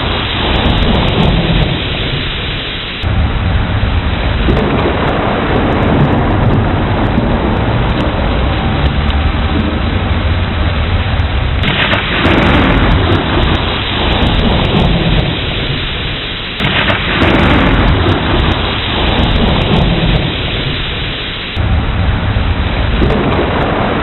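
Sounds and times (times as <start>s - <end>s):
rolling thunder: 0.0s - 24.0s
steady rain: 0.0s - 24.0s.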